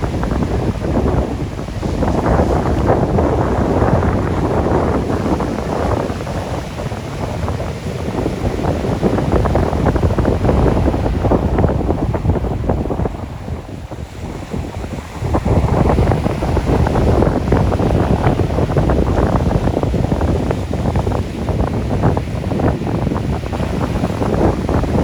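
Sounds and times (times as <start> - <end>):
beach surf: 0.0 - 25.0
wind buffeting microphone: 0.0 - 25.0.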